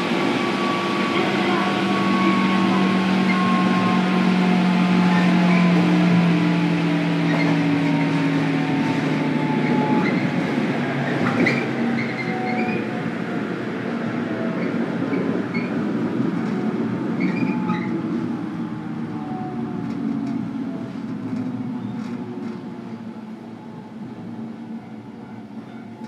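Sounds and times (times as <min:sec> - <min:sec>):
wheels rumbling on track: 0:00.0 - 0:26.0.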